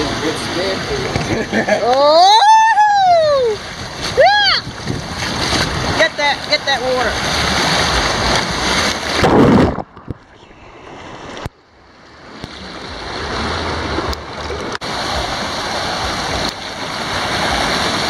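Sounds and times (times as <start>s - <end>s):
water rushing and splashing: 0.0s - 18.0s.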